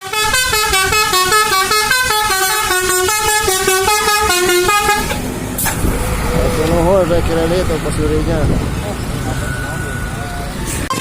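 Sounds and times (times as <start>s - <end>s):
engine and road noise: 0.0s - 11.0s
multi-tone bus horn tune: 0.0s - 11.0s.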